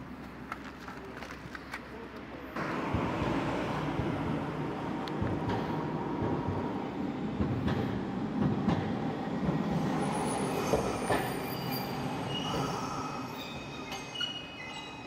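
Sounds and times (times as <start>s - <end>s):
streetcar rumbling past: 2.4s - 15.0s.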